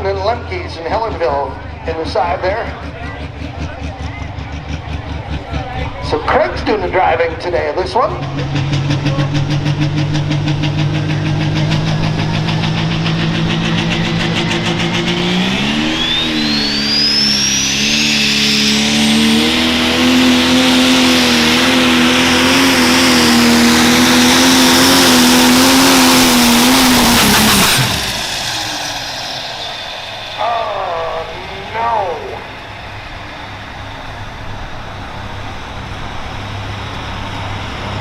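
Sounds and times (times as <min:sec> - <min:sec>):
diesel engine revving: 0:00.0 - 0:38.0
turbocharger whine: 0:00.0 - 0:38.0.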